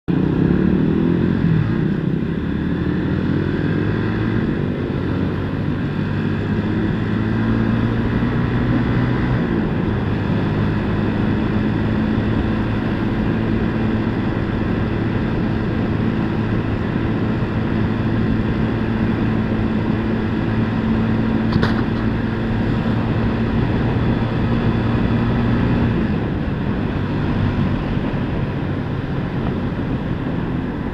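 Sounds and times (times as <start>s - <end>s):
motorcycle engine running: 0.1s - 30.9s.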